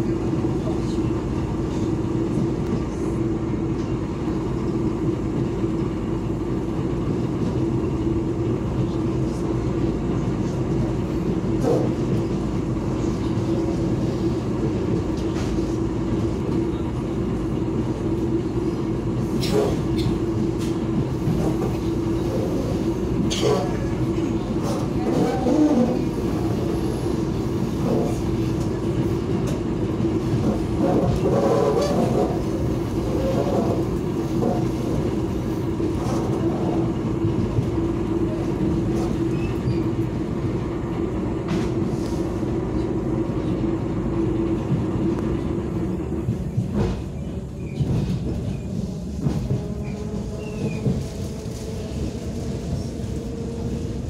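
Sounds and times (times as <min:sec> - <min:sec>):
train carriage rumble and rattle: 0:00.0 - 0:54.0.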